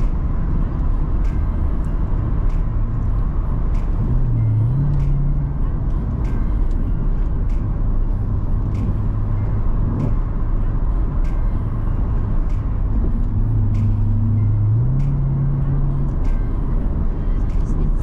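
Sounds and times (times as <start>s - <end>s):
car engine cruising: 0.0s - 18.0s
tyre and road noise: 0.0s - 18.0s.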